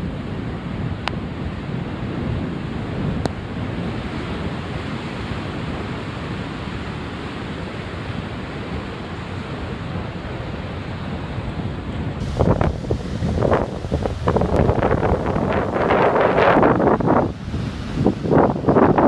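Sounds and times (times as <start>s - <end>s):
storm surf breaking on shore: 0.0s - 19.0s
wind buffeting microphone: 0.0s - 19.0s.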